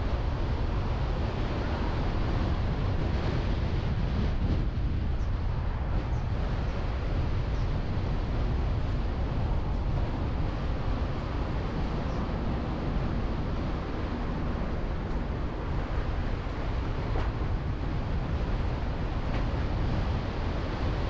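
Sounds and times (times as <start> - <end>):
wind buffeting a microphone: 0.0 - 21.0.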